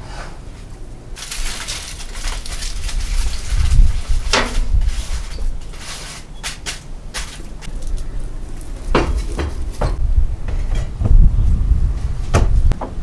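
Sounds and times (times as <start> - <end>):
steady low rumble: 0.0 - 5.8, 6.9 - 12.8.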